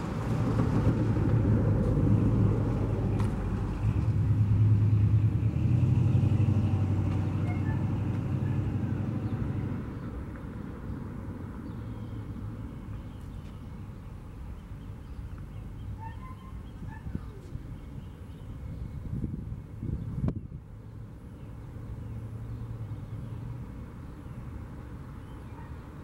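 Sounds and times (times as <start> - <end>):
vehicle rumble: 0.0 - 26.0.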